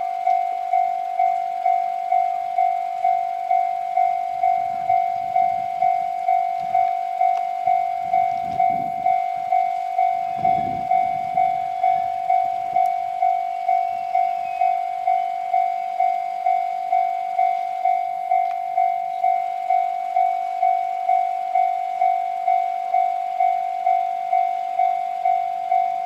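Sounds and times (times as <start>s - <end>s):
diesel railcar rumbling: 0.0s - 26.0s
level crossing warning bell: 0.0s - 26.0s.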